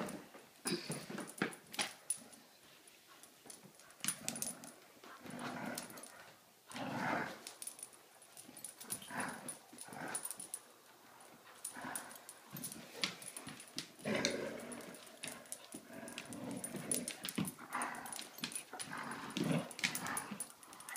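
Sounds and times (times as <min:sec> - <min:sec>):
dogs play-growling: 0:03.2 - 0:20.9.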